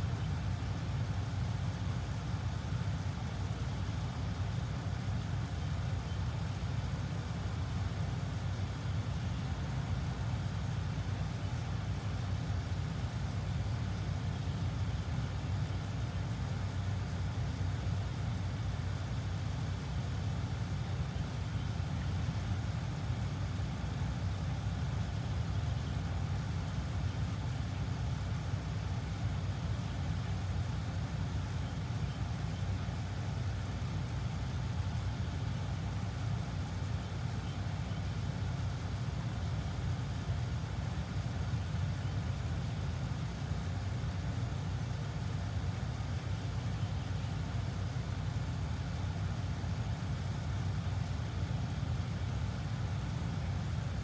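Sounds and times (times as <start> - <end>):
faint hiss: 0.0 - 54.0.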